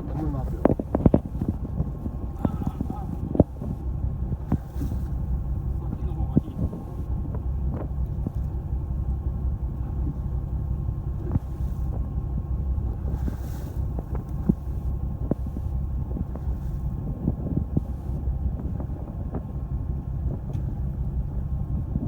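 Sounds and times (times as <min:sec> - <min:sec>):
boat engine rumbling: 0:00.0 - 0:22.0
wind buffeting microphone: 0:00.0 - 0:22.0.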